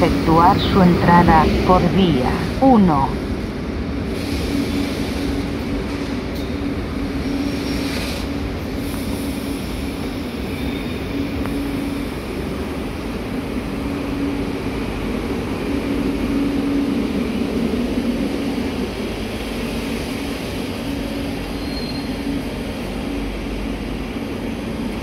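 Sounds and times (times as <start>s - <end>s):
passenger train rumbling: 0.0s - 25.0s.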